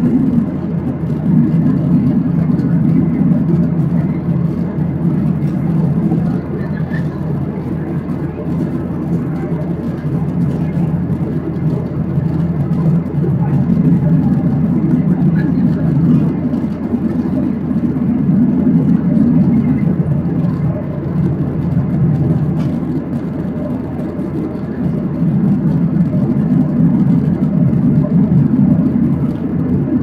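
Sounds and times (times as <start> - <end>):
jet engine cabin roar: 0.0 - 30.0.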